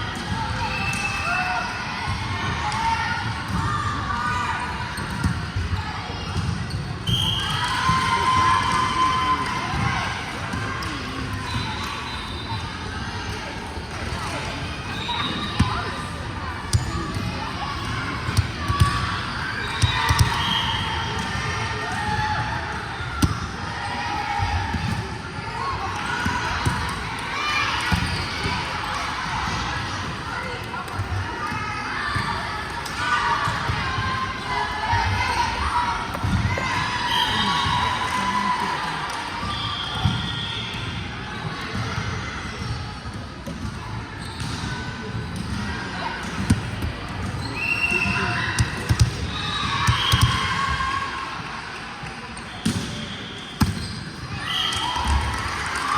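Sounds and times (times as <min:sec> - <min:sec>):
gym hall background: 0:00.0 - 0:55.9.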